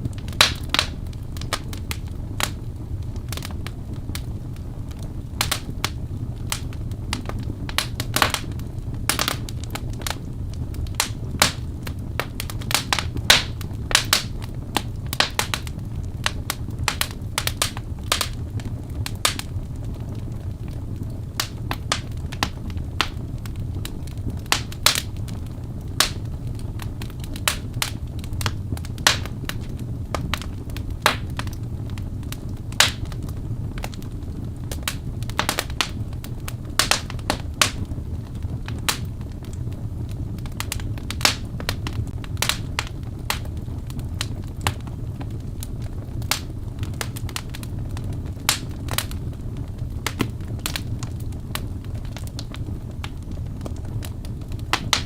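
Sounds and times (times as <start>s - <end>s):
logs burning and crackling: 0.0s - 55.0s.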